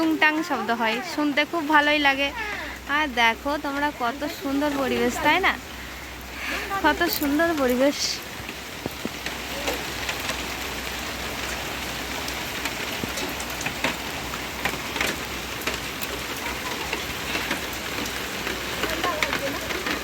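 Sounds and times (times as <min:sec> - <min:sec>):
heavy rain falling: 0:00.0 - 0:20.0
sharp ticks of raindrops: 0:00.0 - 0:20.0.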